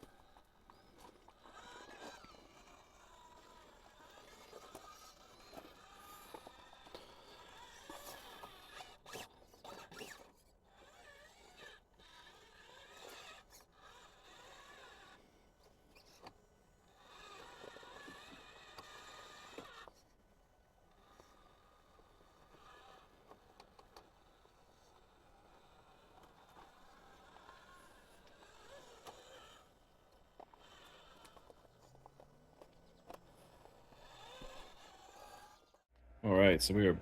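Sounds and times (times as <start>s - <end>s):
electric motor whine: 0.0s - 15.3s, 16.8s - 20.0s, 20.9s - 35.8s
toy truck scraping over ground: 0.0s - 35.9s.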